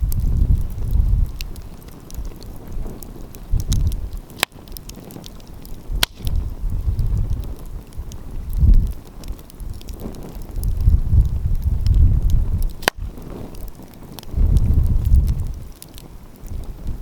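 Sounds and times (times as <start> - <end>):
sharp fire pops: 0.0 - 17.0
wind rumbling on microphone: 0.0 - 17.0
wood fire crackling: 0.0 - 17.0.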